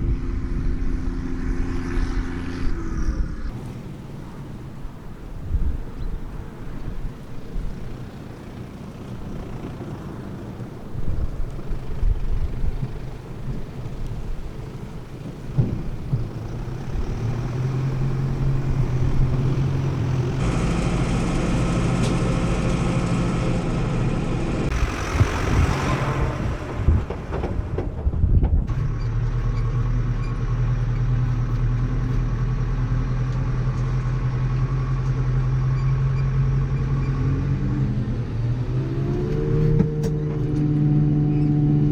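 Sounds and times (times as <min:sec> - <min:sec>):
heavy diesel engines running: 0:00.0 - 0:41.9.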